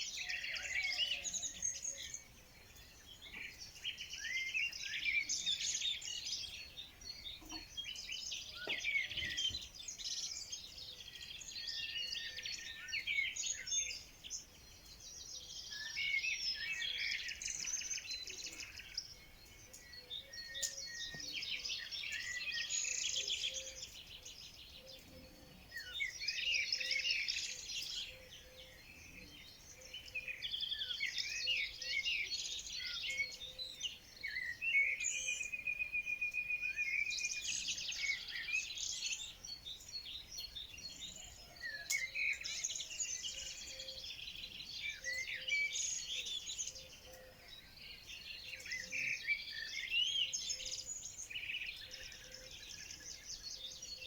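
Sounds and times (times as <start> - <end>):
songbirds singing and chirping: 0.0 - 54.0.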